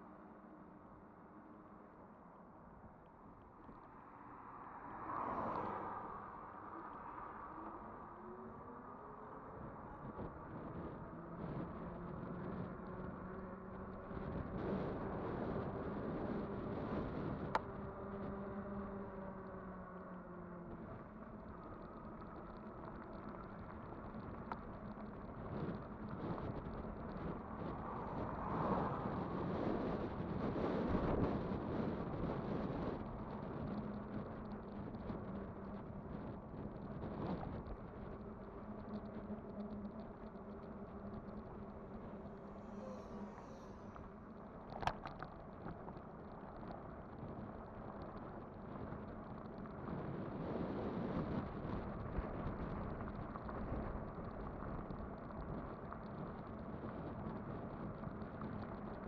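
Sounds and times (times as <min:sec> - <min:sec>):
road noise: 0:00.0 - 0:59.0
wind on microphone: 0:05.2 - 0:59.0
faint steady hum: 0:06.0 - 0:59.0.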